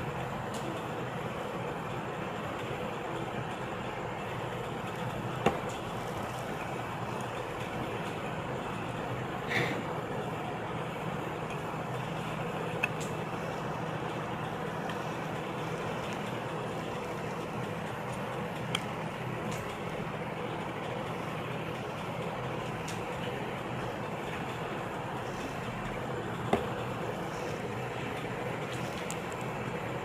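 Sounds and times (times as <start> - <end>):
rumble and hiss: 0.0 - 30.0.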